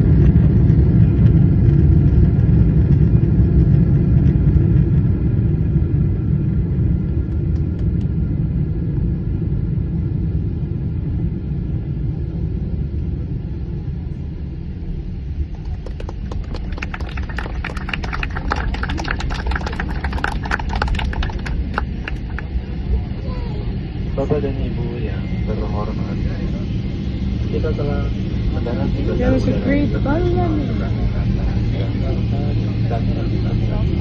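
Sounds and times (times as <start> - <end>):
jet engines inside cabin: 0.0 - 34.0
runway rumble: 0.0 - 34.0.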